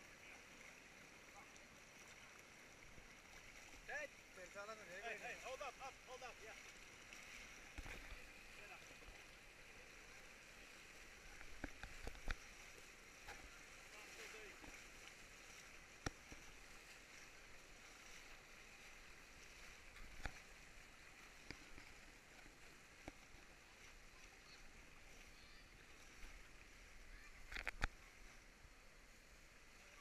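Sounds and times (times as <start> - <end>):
river water rushing: 0.0 - 27.5.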